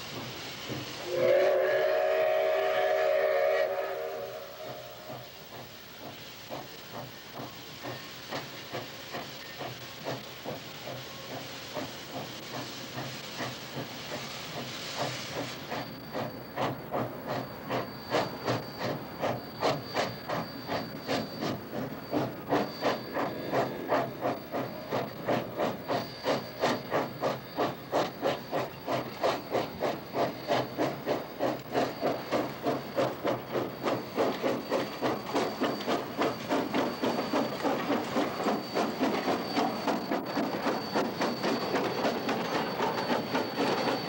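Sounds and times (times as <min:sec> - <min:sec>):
steam hissing: 0:00.0 - 0:44.0
steam locomotive chuffing: 0:00.0 - 0:44.0.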